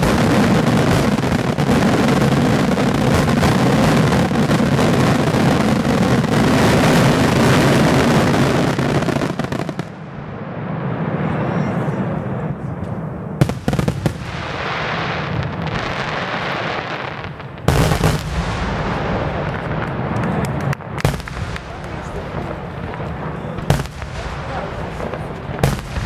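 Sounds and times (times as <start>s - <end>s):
continuous background noise: 0.0s - 26.0s.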